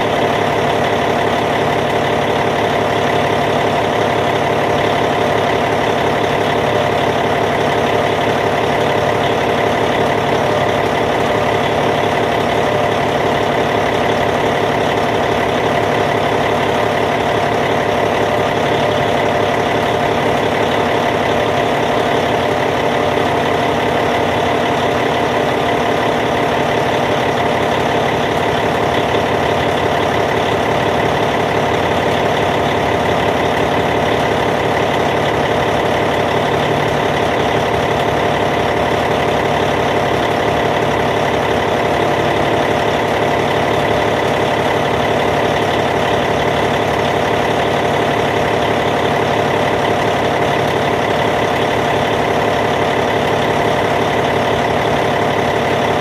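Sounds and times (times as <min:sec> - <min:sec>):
diesel bulldozer engine idling: 0:00.0 - 0:56.0.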